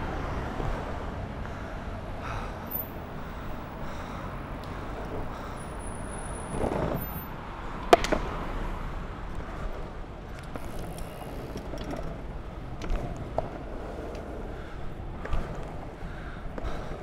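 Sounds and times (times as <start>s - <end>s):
city traffic: 0.0s - 17.0s
longboard wheels rolling on asphalt: 0.0s - 17.0s.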